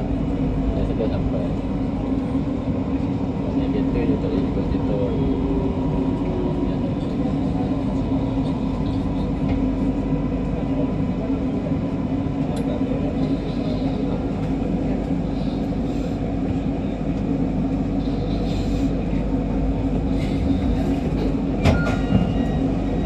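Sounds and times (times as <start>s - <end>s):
train humming inside car: 0.0s - 23.0s.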